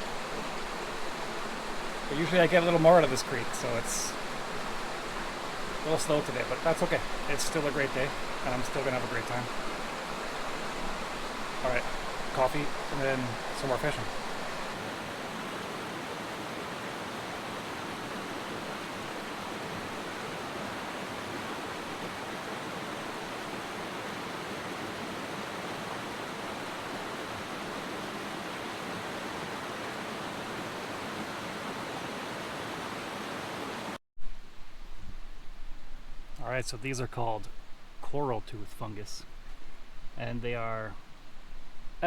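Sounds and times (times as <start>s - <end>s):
creek water rushing and babbling: 0.0s - 42.0s.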